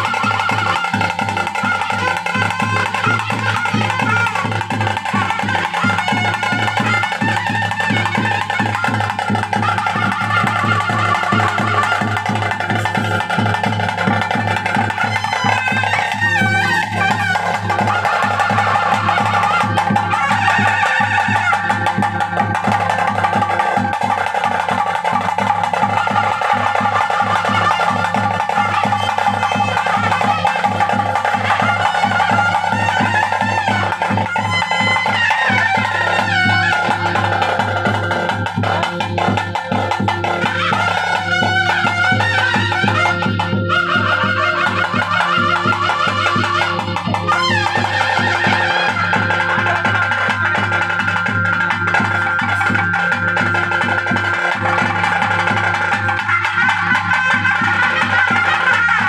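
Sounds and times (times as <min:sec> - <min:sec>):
continuous drumming: 0:00.0 - 0:59.0
wind instrument melody: 0:00.0 - 0:59.0.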